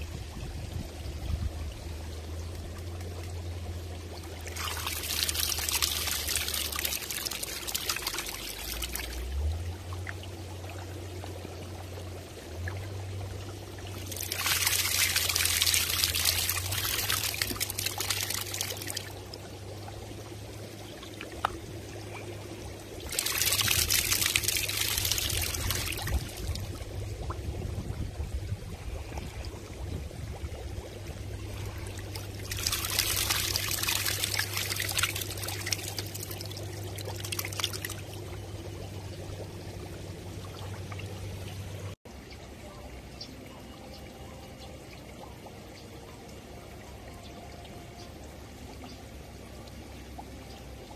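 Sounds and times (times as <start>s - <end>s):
water splashing and pouring: 0.0s - 42.0s
steady low hum: 0.0s - 50.9s.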